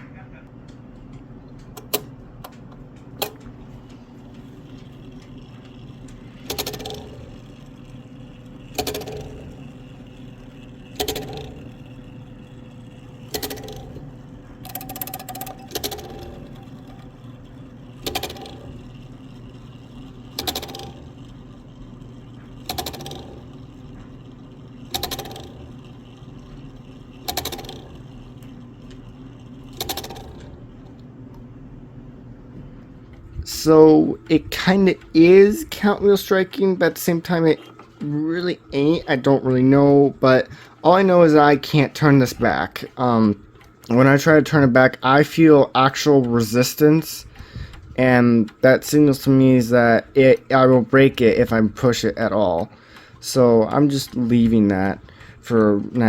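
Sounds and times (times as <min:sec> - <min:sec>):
steady low hum: 0:00.0 - 0:56.0
clock striking: 0:00.6 - 0:31.1, 0:33.4 - 0:56.0.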